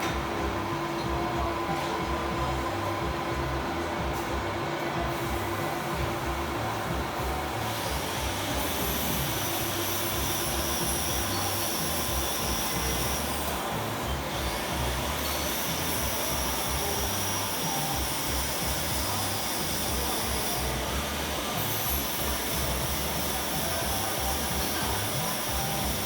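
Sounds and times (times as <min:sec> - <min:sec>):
metal lathe running: 0:00.0 - 0:26.0.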